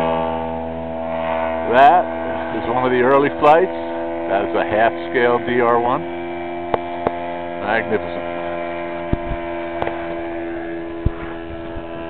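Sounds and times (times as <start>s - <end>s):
model plane engine drone: 0.0s - 12.0s.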